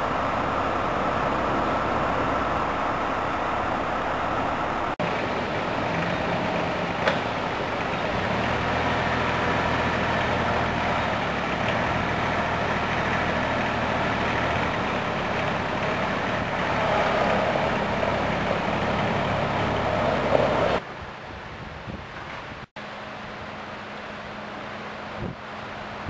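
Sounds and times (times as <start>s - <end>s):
forklift engine running: 0.0s - 21.0s
faint wind noise: 0.0s - 23.7s, 25.0s - 26.0s.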